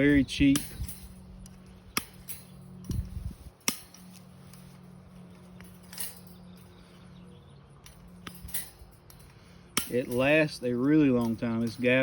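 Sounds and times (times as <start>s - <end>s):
metallic clinks of wire fencing: 0.0s - 12.0s.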